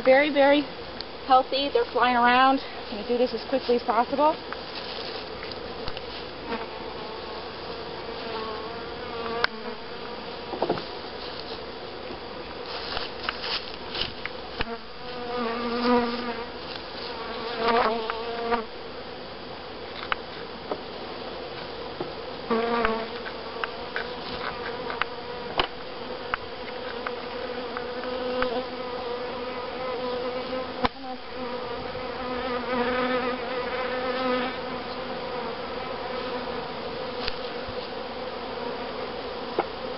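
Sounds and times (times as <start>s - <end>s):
honeybees buzzing: 0.0s - 18.8s, 21.2s - 39.9s.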